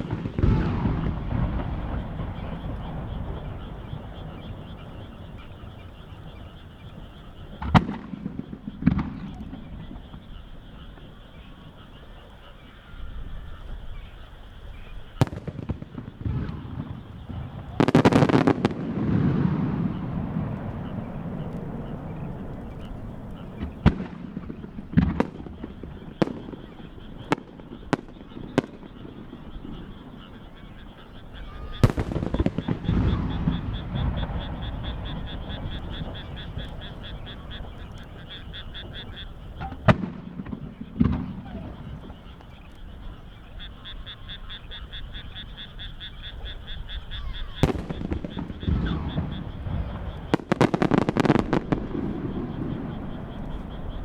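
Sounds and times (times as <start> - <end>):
firework shells bursting: 0.0 - 11.1, 15.0 - 43.4, 46.6 - 54.0
rumbling echo: 0.0 - 12.0, 12.9 - 45.5, 46.3 - 54.0.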